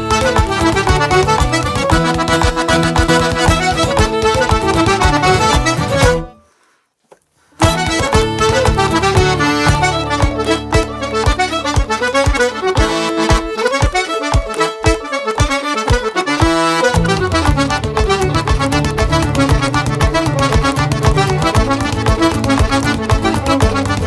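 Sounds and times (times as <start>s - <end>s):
accordion: 0.0s - 6.4s, 7.6s - 24.0s
fiddle: 0.0s - 6.4s, 7.6s - 24.0s
foot-tapping: 0.0s - 6.4s, 7.6s - 24.0s
guitar: 0.0s - 6.4s, 7.6s - 24.0s.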